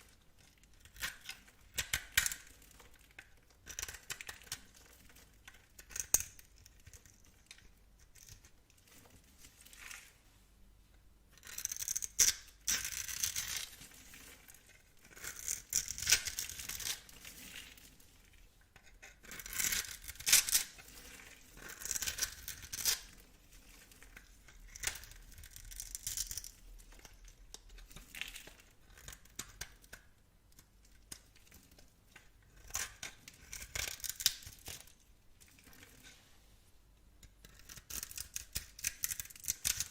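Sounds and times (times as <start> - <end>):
knife cutting dry soap: 0.0 - 8.6, 11.4 - 34.9, 37.2 - 39.9.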